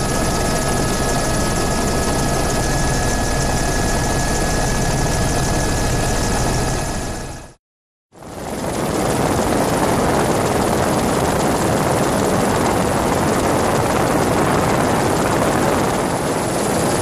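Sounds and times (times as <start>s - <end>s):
helicopter rotor beat: 0.0s - 7.6s, 8.2s - 17.0s.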